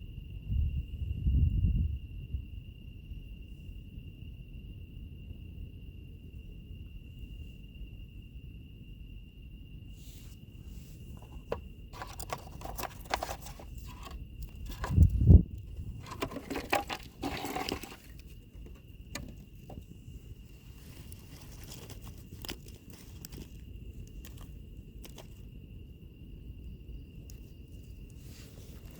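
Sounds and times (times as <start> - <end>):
high insect trill: 0.0 - 28.9.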